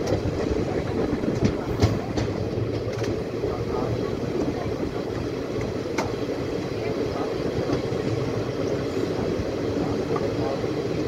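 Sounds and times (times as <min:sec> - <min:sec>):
train wheels rumbling on rails: 0:00.0 - 0:11.0
wheels clicking over rail joints: 0:00.0 - 0:11.0.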